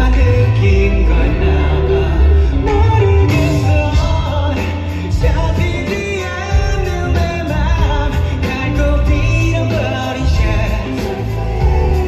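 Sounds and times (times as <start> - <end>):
bass guitar: 0.0 - 12.0
drums: 0.0 - 12.0
electric guitar: 0.0 - 12.0
man singing into microphone: 0.0 - 12.0.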